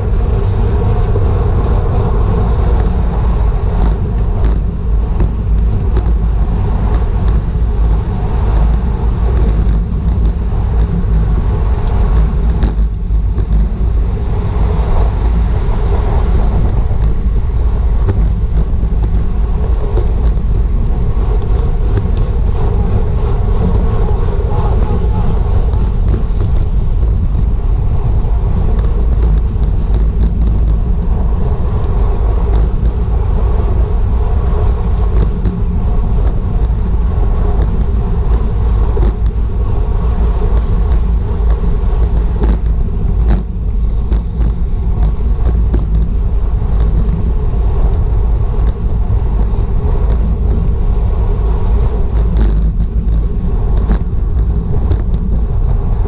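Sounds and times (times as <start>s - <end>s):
bicycle clicks and rattles: 0.0s - 56.0s
road noise: 0.0s - 56.0s
wind buffeting camera: 0.0s - 56.0s.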